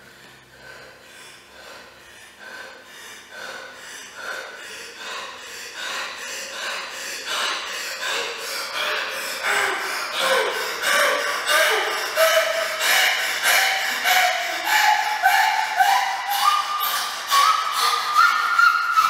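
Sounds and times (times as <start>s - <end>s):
person breathing rhythmically: 0.0s - 19.0s.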